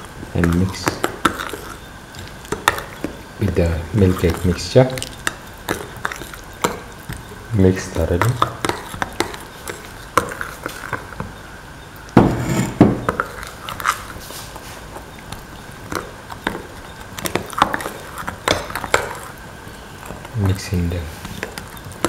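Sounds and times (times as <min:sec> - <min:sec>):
spoon stirring batter in bowl: 0:00.1 - 0:11.4, 0:12.2 - 0:22.0.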